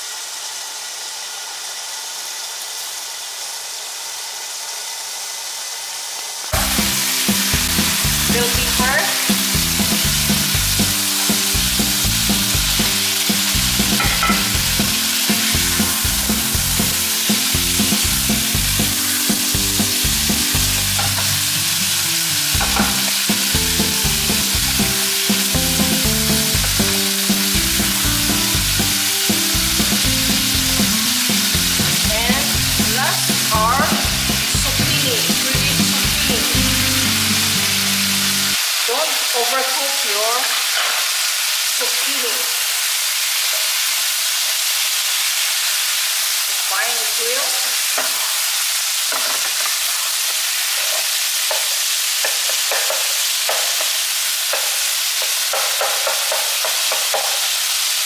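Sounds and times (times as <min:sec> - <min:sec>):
food sizzling in frying pan: 0:00.0 - 0:58.0.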